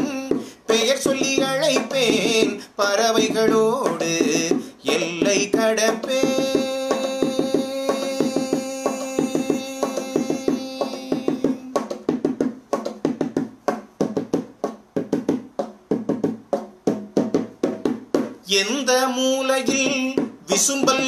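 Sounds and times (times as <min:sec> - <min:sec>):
hand drum rhythm: 0:00.0 - 0:21.0.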